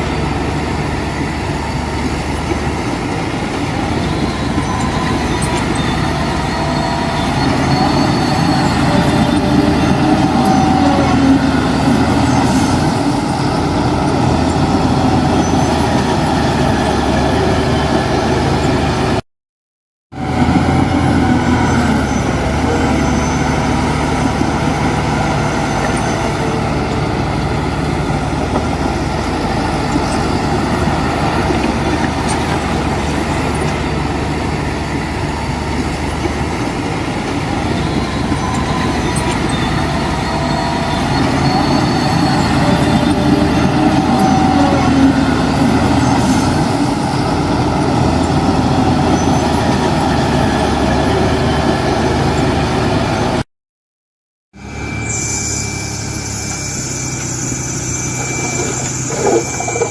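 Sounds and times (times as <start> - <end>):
diesel earthmoving machinery: 0.0 - 19.2, 20.1 - 53.4, 54.6 - 59.9.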